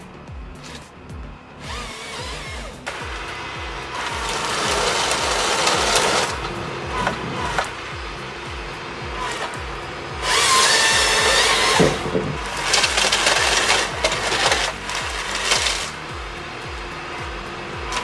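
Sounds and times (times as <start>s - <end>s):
music with deep bass beat: 0.0s - 18.0s
power saw cutting wood: 0.0s - 18.0s.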